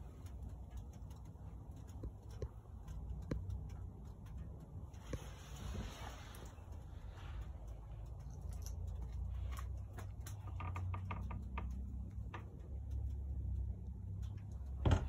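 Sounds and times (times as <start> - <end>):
light irregular ticking: 0.0 - 15.0.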